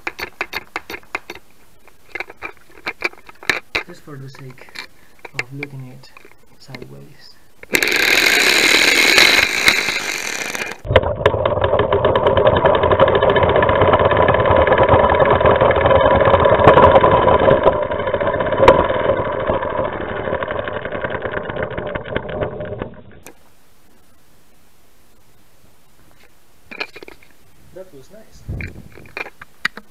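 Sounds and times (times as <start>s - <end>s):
toy air engine rattling: 0.0s - 7.0s, 7.6s - 10.9s, 11.7s - 23.4s, 26.7s - 27.3s, 28.5s - 29.9s.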